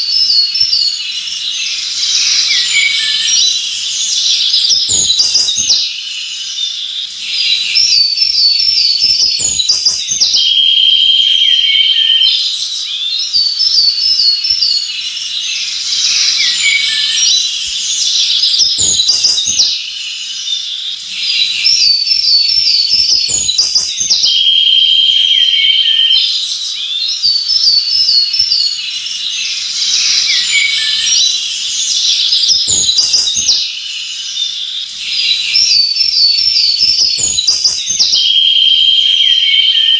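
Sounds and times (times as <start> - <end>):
birds singing and chirping: 0.0 - 39.9
buzzy bird trill: 0.0 - 39.9.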